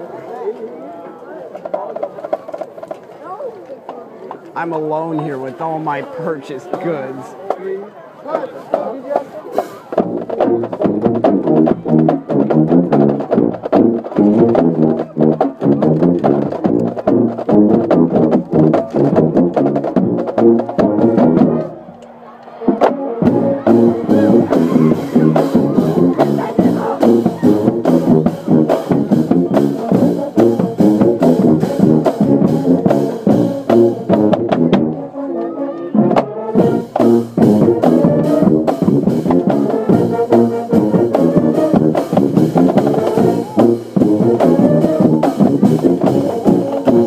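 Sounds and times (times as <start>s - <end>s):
brass band playing: 4.6s - 7.4s, 8.7s - 47.0s
drum line beat: 4.6s - 7.6s, 8.8s - 22.0s, 22.7s - 35.1s, 36.1s - 47.0s.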